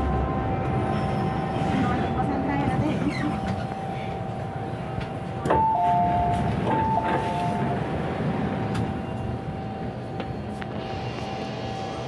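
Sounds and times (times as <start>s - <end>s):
train rumble and whine: 0.0s - 12.0s.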